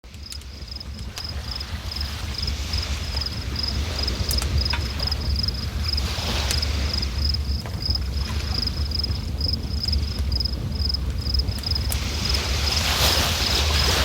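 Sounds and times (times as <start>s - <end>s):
insect chirping: 0.1s - 14.0s
river water running: 0.1s - 14.0s.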